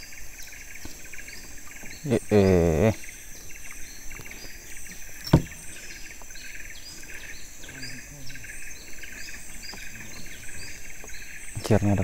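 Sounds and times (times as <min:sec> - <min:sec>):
insects whining: 0:00.0 - 0:12.0.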